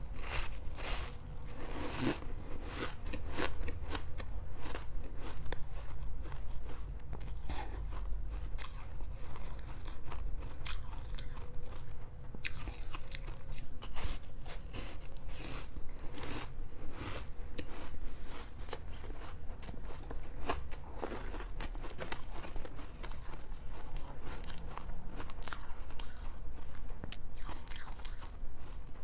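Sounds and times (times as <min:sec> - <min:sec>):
person chewing ice crunching: 0:00.1 - 0:29.0.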